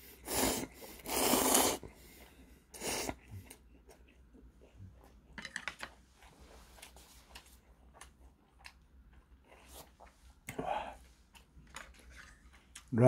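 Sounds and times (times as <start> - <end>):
person chewing noodles: 0.0 - 13.0.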